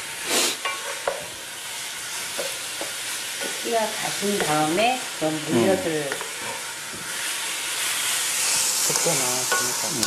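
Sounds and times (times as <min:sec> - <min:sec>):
beef sizzling in a frying pan: 0:00.0 - 0:10.0.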